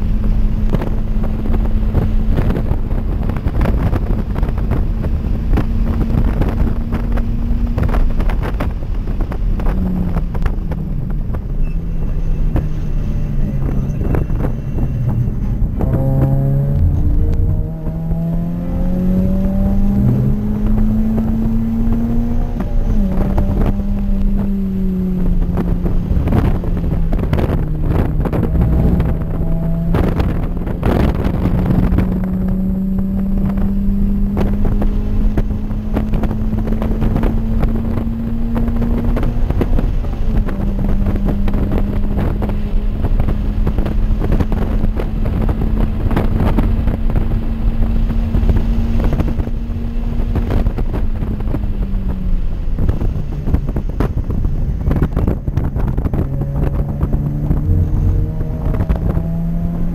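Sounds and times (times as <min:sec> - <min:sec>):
car engine revving under hard throttle: 0:00.0 - 0:59.9
wind and road noise: 0:00.0 - 0:59.9.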